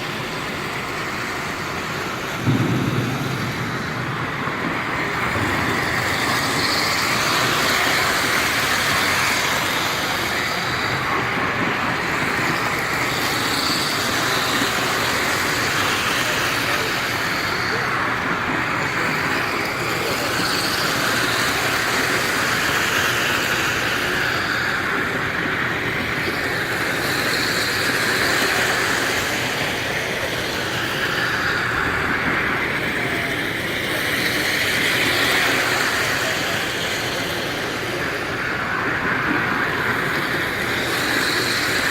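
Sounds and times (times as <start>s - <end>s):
model train whirring clatter: 0.0s - 41.9s.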